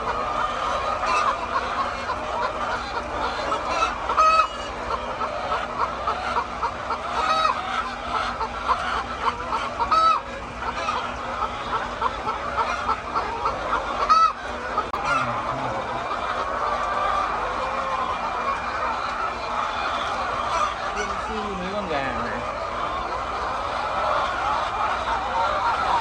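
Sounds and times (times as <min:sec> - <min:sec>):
chicken squawks: 0:00.0 - 0:26.0
chickens clucking: 0:00.0 - 0:26.0.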